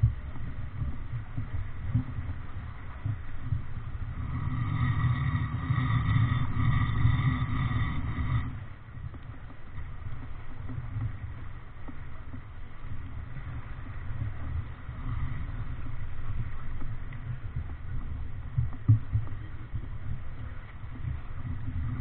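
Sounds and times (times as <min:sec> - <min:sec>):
waves rushing along hull: 0:00.0 - 0:22.0
wind buffeting microphone: 0:00.0 - 0:22.0.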